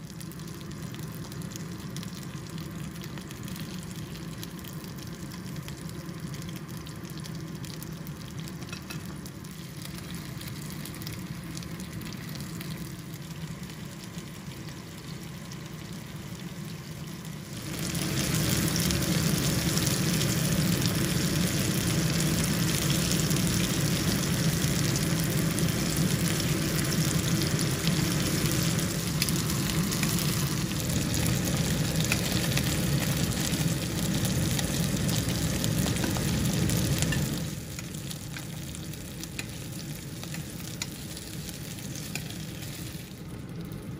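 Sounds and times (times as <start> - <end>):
shrimp sizzling in oil: 0.0 - 43.9.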